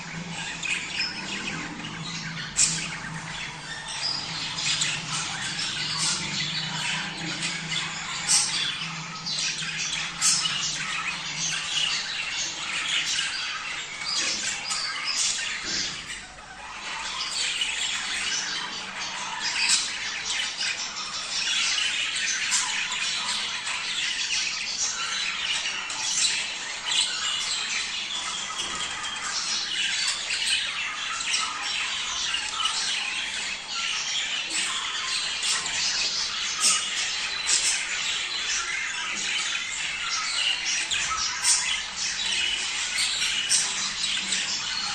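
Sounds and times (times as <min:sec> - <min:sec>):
budgerigars chattering and warbling: 0:00.0 - 0:44.9
sharp squawks and chirps: 0:00.0 - 0:44.9.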